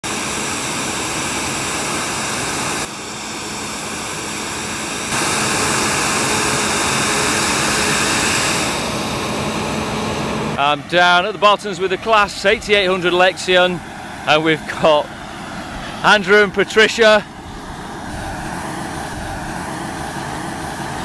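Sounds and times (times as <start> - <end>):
combine harvester engine and threshing: 0.0 - 21.0.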